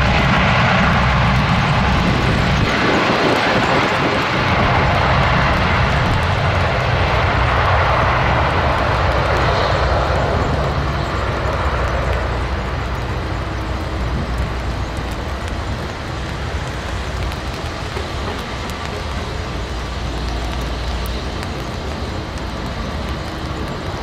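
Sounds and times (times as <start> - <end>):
aircraft propeller roar: 0.0 - 24.0.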